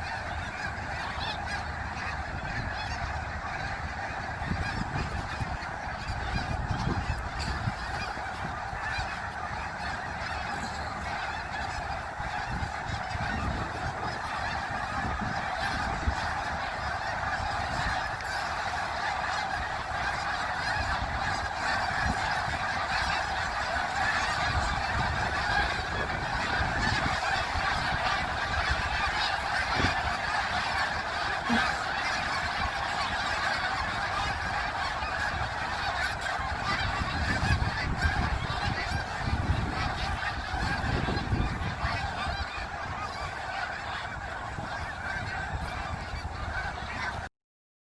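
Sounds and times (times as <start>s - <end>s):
geese honking: 0.0s - 47.3s.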